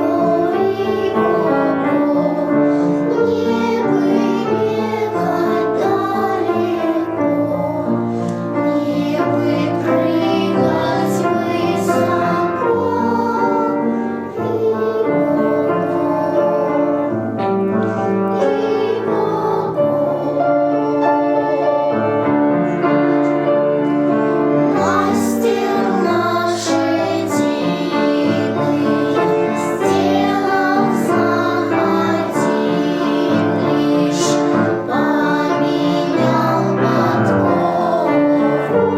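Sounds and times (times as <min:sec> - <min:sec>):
piano accompaniment: 0:00.0 - 0:38.9.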